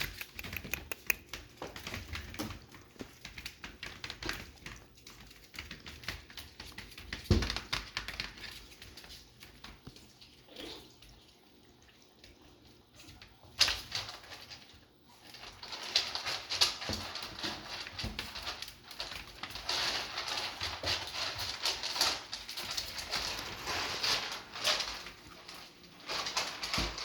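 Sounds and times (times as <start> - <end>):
puppies scuffling paws: 0.0 - 27.0.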